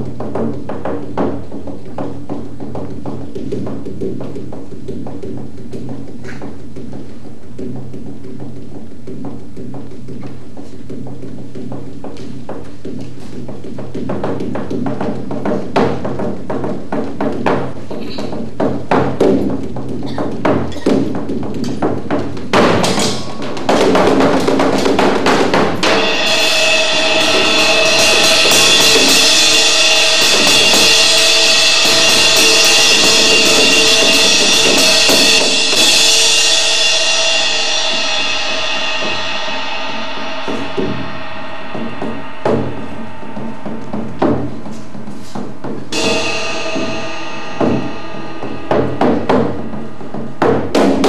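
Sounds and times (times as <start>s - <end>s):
sharp drum strikes: 0.0s - 51.0s.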